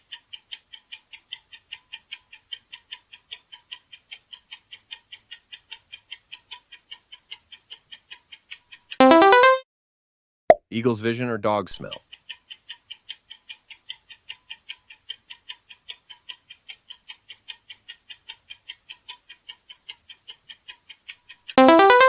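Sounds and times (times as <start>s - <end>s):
clock ticking: 0.0s - 9.6s, 11.8s - 22.0s.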